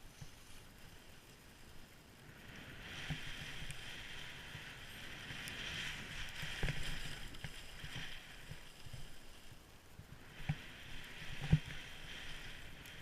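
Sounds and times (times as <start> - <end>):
skis hissing over snow: 0.0 - 13.0.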